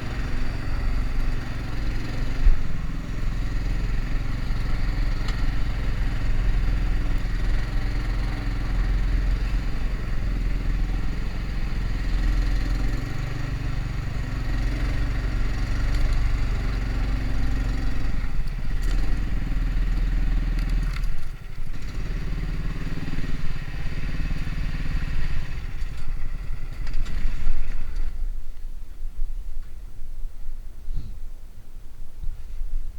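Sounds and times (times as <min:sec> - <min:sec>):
vehicle engine running: 0:00.0 - 0:28.3.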